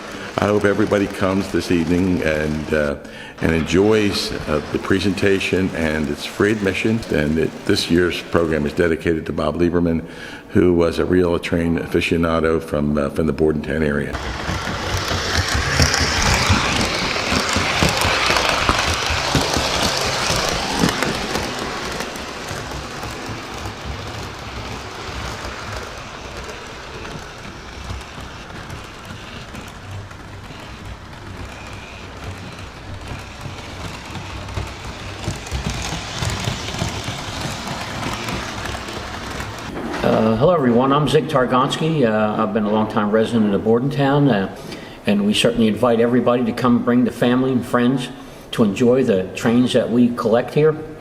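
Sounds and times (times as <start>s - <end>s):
model trains rattling on track: 0.0s - 12.5s, 14.1s - 50.7s.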